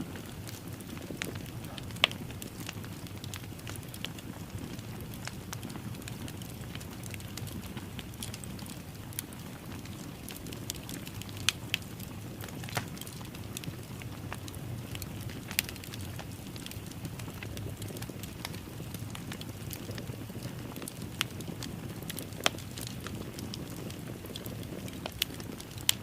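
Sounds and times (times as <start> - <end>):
fire burning in fireplace: 0.0 - 26.0.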